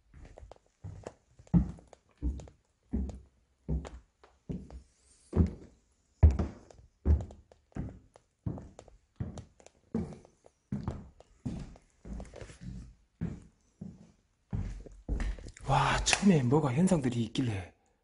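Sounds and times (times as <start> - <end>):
heavy footsteps on wooden stairs: 0.1 - 15.8.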